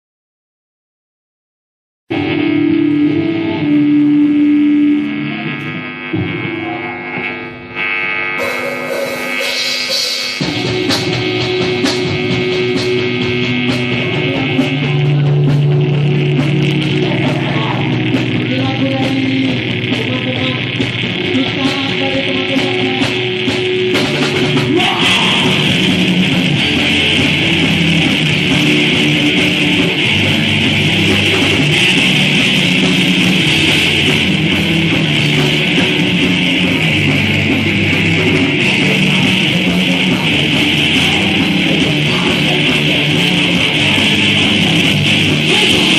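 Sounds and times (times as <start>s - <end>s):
heavy rock music: 2.1s - 45.9s.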